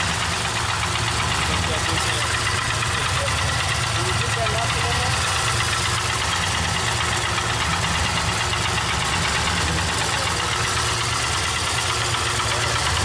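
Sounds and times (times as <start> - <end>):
car engine idling with knocking: 0.0 - 13.0.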